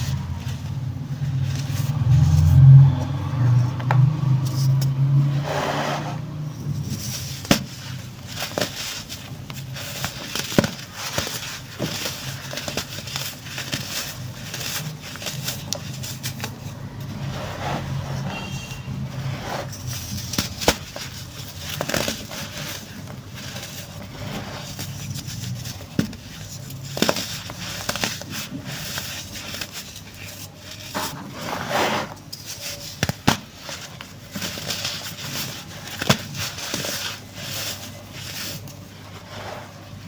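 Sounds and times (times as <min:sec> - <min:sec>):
baking soda crunching and crackling: 0:07.0 - 0:40.0.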